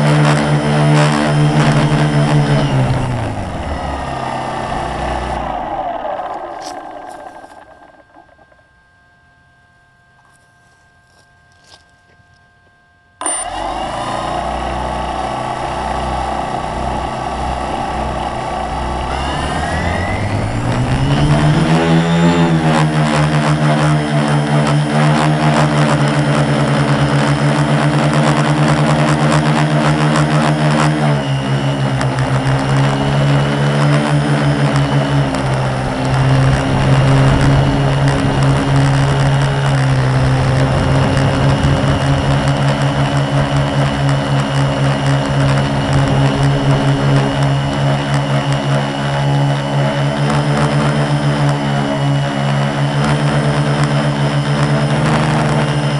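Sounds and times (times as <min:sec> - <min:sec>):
quadcopter motors humming: 0:00.0 - 0:55.9.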